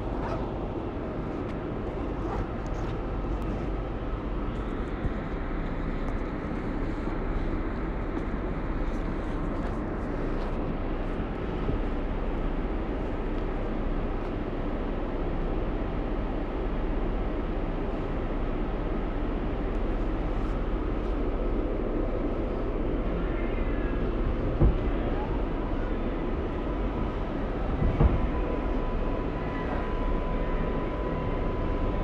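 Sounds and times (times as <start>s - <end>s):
subway train humming while idling: 0.0s - 32.0s.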